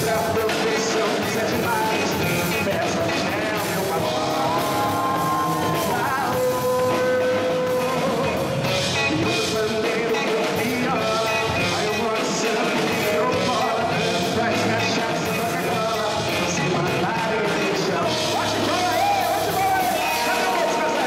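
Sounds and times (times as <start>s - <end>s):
live samba band: 0.0s - 21.0s
man singing: 0.0s - 21.0s.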